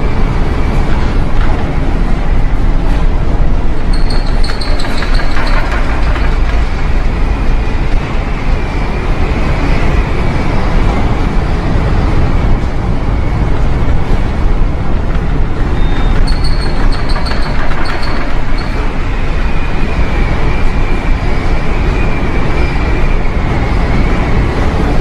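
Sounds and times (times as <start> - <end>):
storm wind roaring: 0.0 - 25.0
wind buffeting microphone: 0.0 - 25.0.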